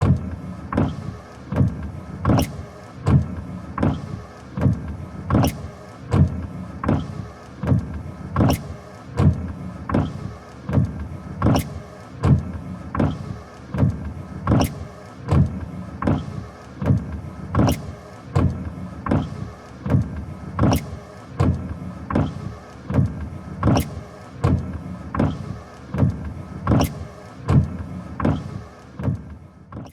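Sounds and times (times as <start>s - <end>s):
regular engine knock: 0.0s - 29.9s.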